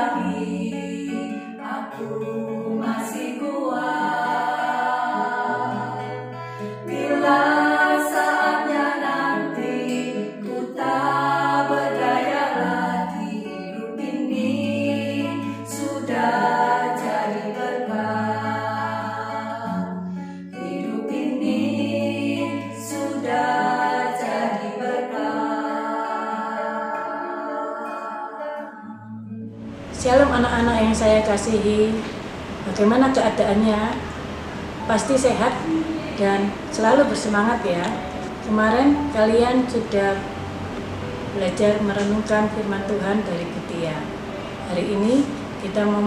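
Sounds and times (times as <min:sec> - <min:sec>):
strummed acoustic guitar: 0:00.0 - 0:46.0
women singing together: 0:00.0 - 0:46.0.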